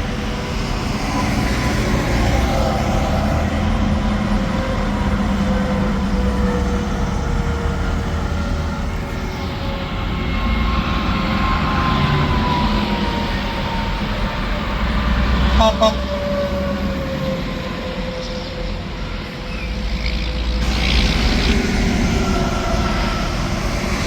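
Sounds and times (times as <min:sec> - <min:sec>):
highway traffic passing: 0:00.0 - 0:24.0
truck engines: 0:00.0 - 0:24.0.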